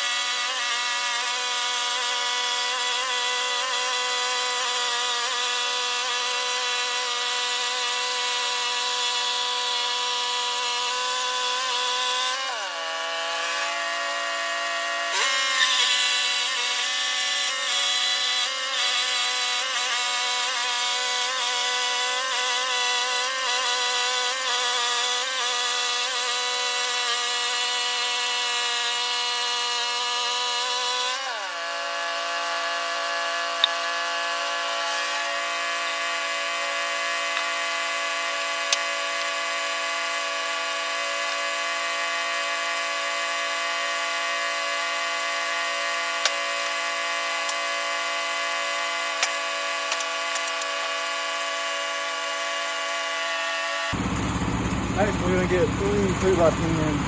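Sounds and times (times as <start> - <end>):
sawmill engine sawing log: 0.0 - 57.0.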